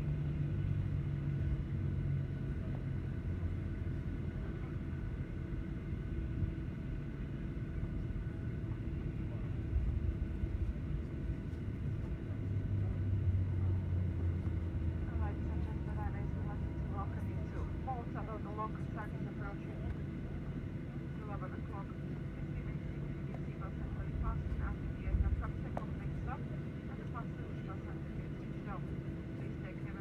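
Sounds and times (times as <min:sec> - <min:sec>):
airliner cabin rumble: 0:00.0 - 0:30.0
faint steady hums: 0:00.0 - 0:30.0.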